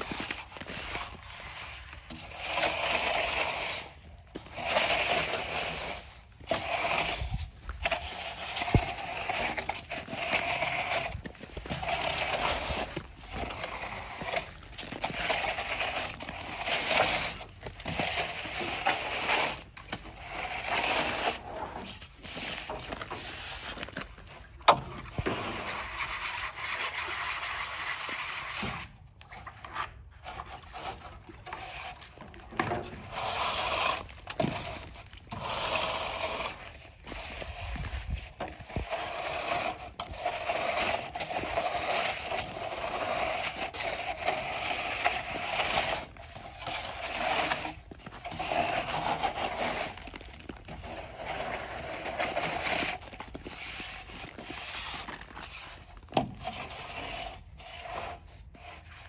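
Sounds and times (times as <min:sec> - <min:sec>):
hand scraping and rubbing: 0:00.0 - 0:59.0.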